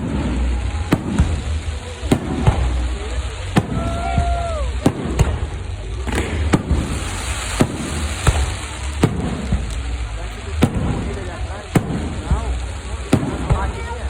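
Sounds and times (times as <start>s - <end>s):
background noise: 0.0s - 14.0s
fireworks bangs: 0.0s - 14.0s.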